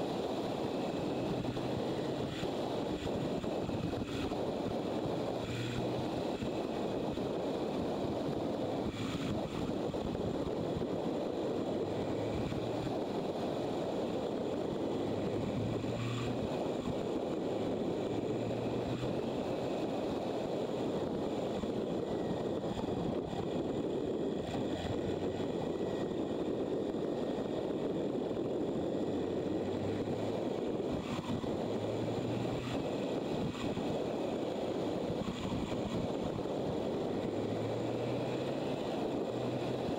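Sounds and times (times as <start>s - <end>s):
motorcycle engine drone: 0.0s - 39.9s
wind rush over microphone: 0.0s - 39.9s.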